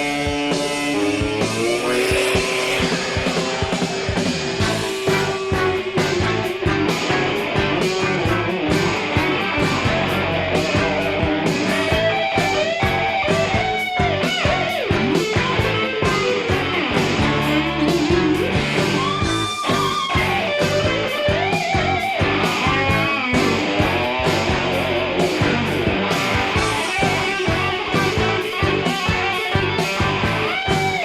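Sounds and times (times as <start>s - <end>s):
bass guitar: 0.0s - 31.0s
electric guitar lead lines: 0.0s - 31.0s
steady drum beat: 0.0s - 31.0s.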